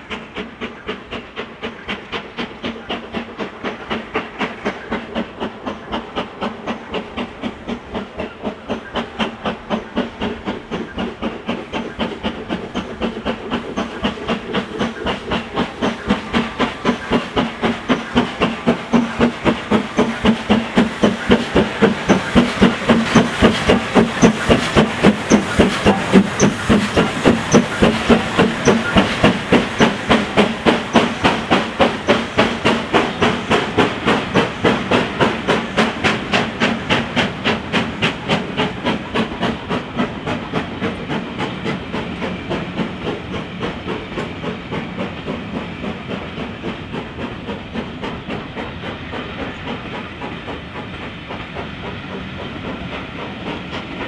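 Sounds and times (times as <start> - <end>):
steam hissing: 0.0 - 54.0
steam locomotive exhaust chuffs: 0.0 - 54.0.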